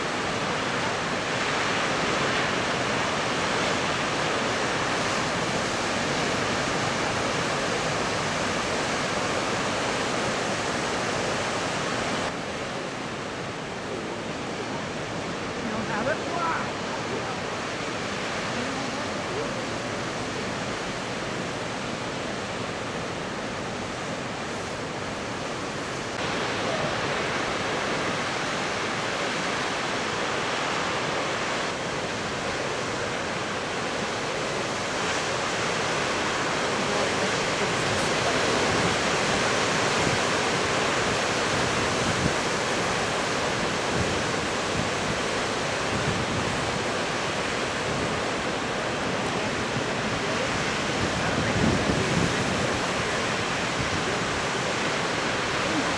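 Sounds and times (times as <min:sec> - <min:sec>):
storm surf crashing against rocks: 0:00.0 - 0:55.9.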